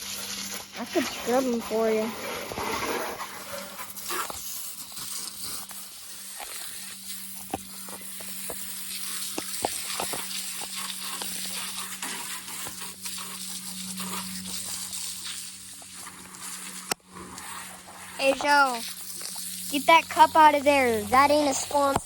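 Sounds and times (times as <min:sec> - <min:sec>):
hose spraying water: 0:00.0 - 0:22.0
water splashes and drips: 0:00.0 - 0:22.0.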